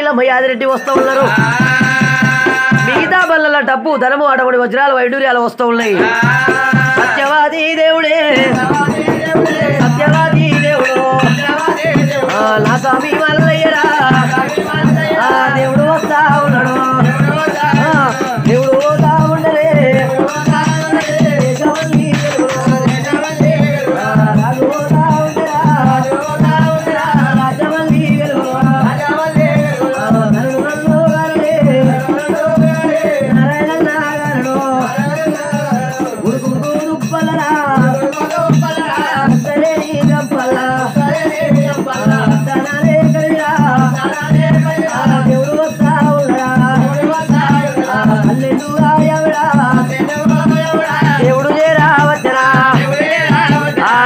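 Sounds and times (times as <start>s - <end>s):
drums: 0.7s - 3.6s, 5.8s - 54.0s
rattling jingle: 8.3s - 54.0s.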